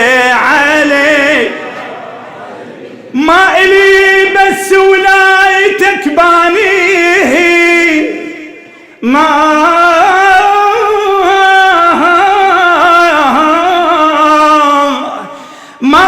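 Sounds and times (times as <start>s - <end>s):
man singing wordless melody: 0.0s - 1.8s, 3.1s - 16.0s.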